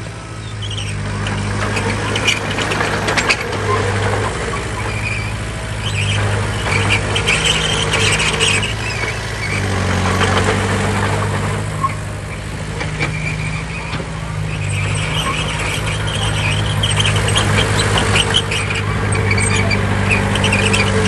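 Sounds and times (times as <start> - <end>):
diesel machinery engine: 0.0 - 21.0.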